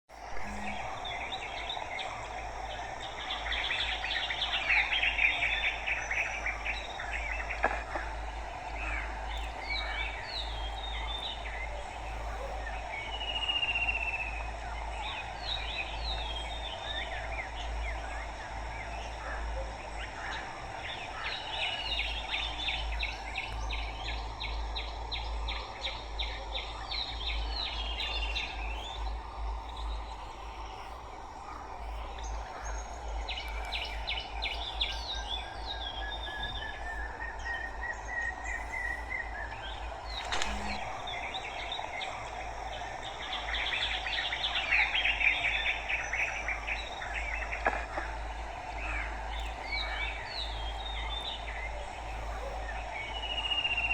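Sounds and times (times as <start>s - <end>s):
birds chirping in rapid trills: 0.1s - 53.9s
low hum: 0.1s - 53.9s
outdoor background noise: 0.1s - 53.9s.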